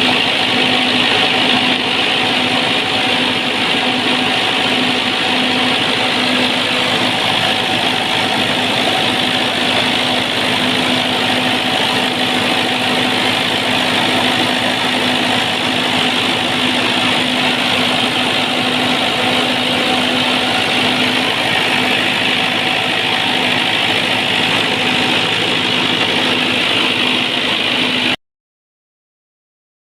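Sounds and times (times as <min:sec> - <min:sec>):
diesel generator engine running: 0:00.0 - 0:28.2.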